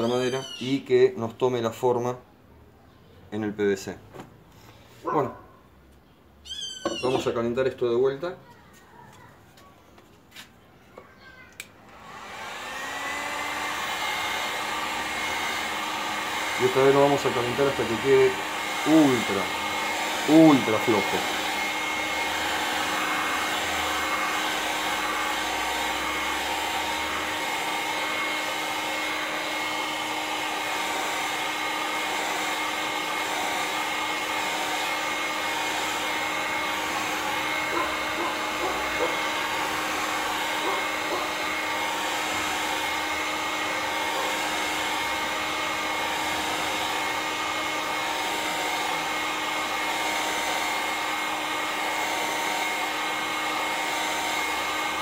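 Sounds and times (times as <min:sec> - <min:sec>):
heat gun blowing air: 0:00.0 - 0:00.8, 0:06.6 - 0:07.4, 0:11.8 - 0:55.0.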